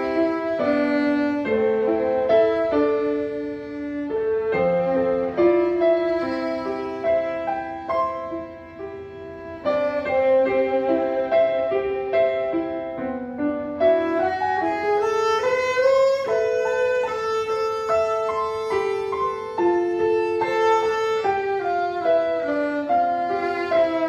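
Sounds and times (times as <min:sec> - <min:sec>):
violin slow melody: 0:00.0 - 0:24.0.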